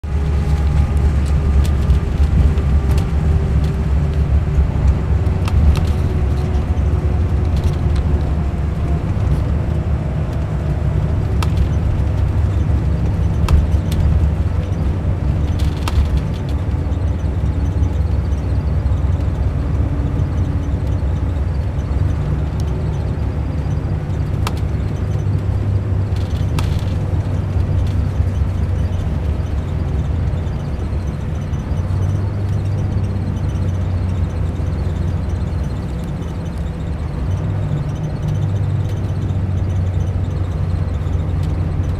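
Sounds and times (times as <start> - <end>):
diesel engine rumble: 0.0 - 41.9.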